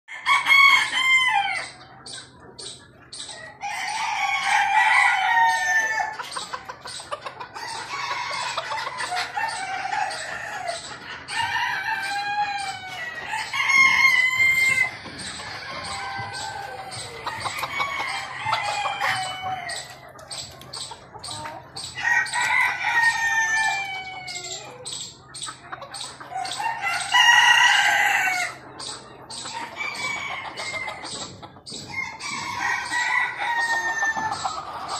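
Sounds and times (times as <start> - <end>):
chickens clucking: 0.1 - 34.9
chickens crowing: 0.1 - 34.9.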